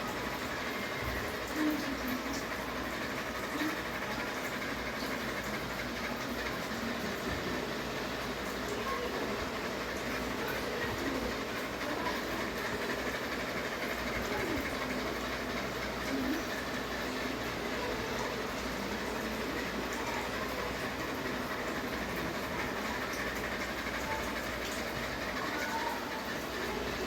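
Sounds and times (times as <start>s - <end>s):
ceiling fan whooshing hum: 0.0s - 27.0s.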